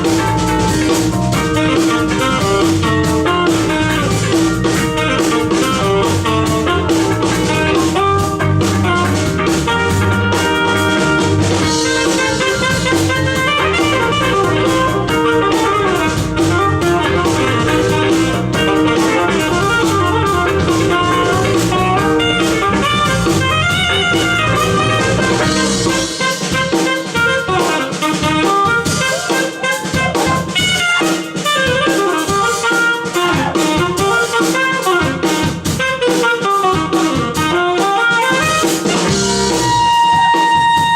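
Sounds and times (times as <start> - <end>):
bass: 0.0 - 40.9
drum kit: 0.0 - 40.9
electric guitar: 0.0 - 40.9.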